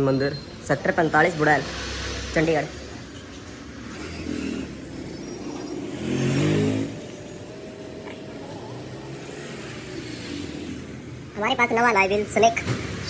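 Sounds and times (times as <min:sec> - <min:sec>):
vehicle engine revving: 0:01.2 - 0:13.0
steady background hum: 0:02.3 - 0:13.0.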